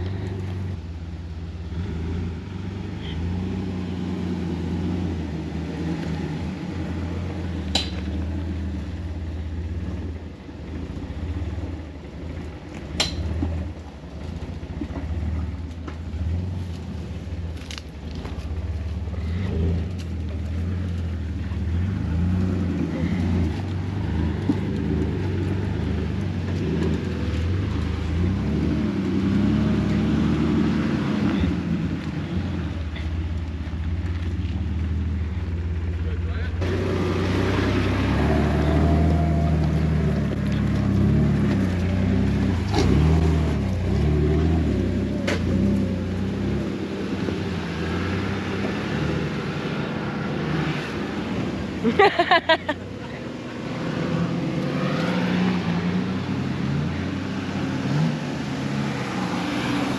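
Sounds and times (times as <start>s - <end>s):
car engine droning at low revs: 0.0s - 59.9s.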